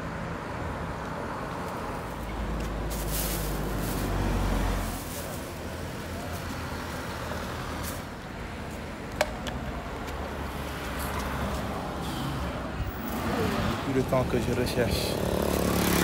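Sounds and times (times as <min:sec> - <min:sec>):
traffic hum: 0:00.0 - 0:16.0
vehicle passing with engine rumble: 0:00.0 - 0:16.0.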